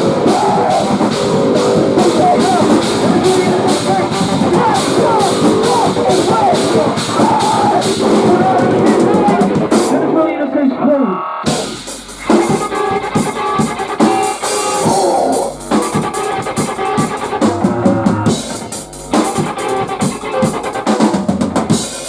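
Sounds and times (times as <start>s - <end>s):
live rock band playing: 0.0s - 10.0s, 11.5s - 22.0s.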